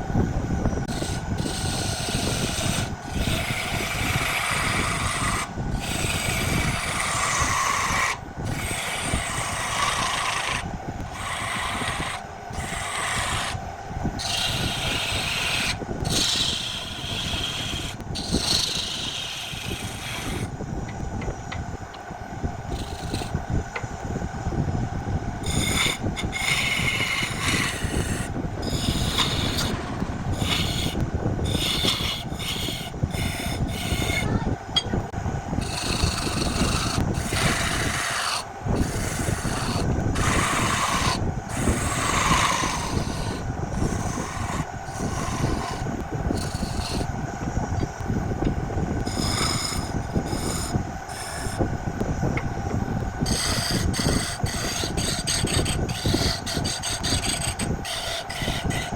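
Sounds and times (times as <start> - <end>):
tool scraping spinning wood: 0.0 - 58.9
wood lathe humming: 0.0 - 58.9.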